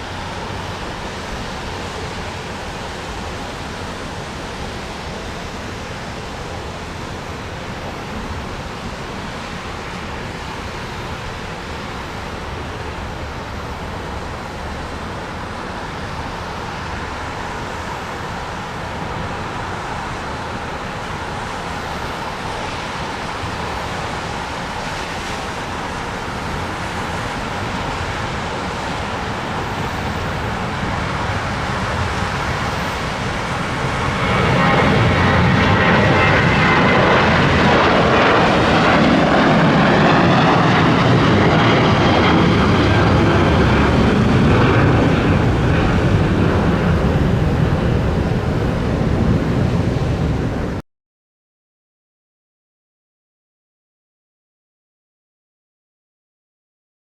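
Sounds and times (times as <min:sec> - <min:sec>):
jet engines on takeoff: 0:00.0 - 0:50.8.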